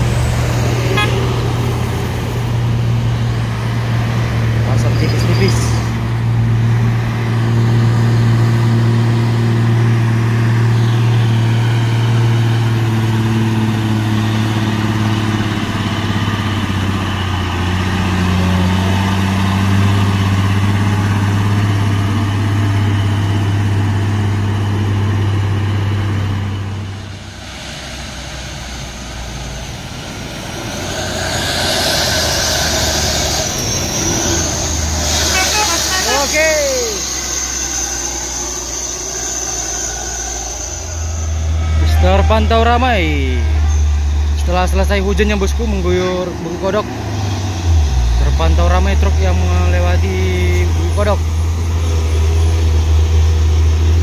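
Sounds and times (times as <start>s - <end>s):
diesel truck engine labouring: 0.0s - 54.0s
vehicle hissing loudly: 0.0s - 54.0s.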